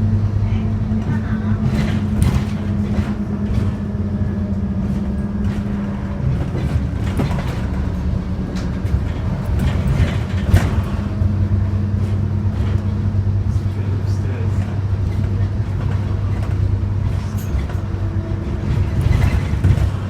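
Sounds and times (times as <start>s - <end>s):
diesel bus engine droning: 0.0s - 20.0s
rattles and clicks: 0.9s - 20.0s.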